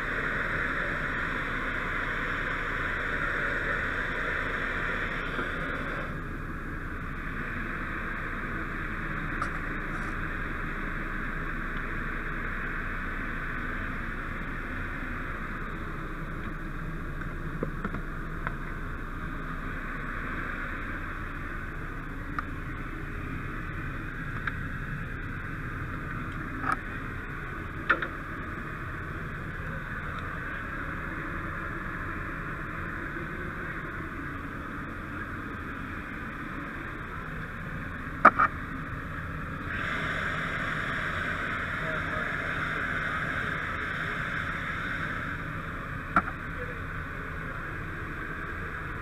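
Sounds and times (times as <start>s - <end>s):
low rumble: 0.0s - 49.0s
steady rushing noise: 0.0s - 49.0s.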